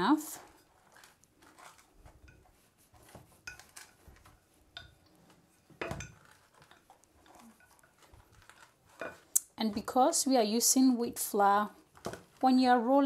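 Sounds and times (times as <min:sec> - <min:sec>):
rolling pin rolling over dough: 0:00.0 - 0:13.0.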